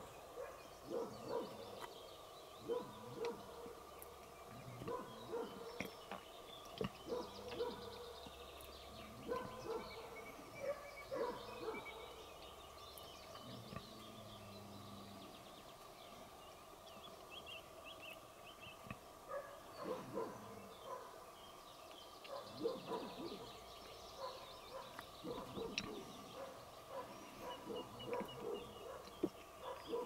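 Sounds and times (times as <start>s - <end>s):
faint songbird chirping: 0.0s - 30.0s.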